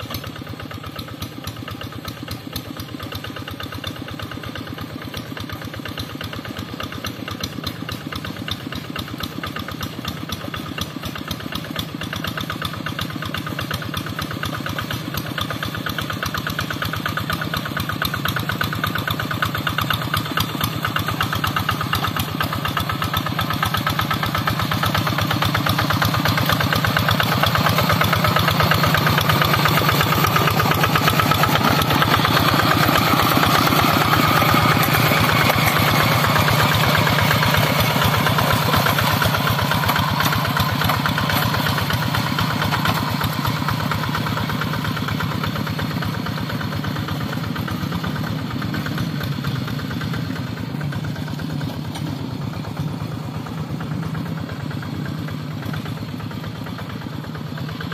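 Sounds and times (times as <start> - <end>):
diesel tractor engine chugging: 0.0 - 57.9.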